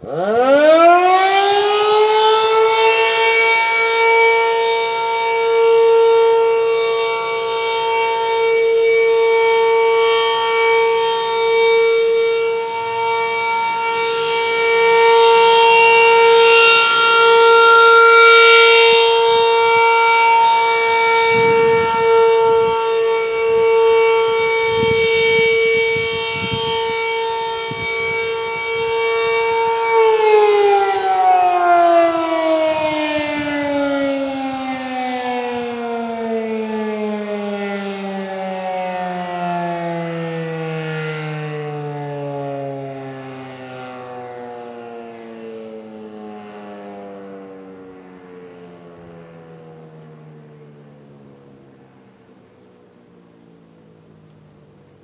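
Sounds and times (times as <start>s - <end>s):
rotating warning siren: 0.0s - 55.0s.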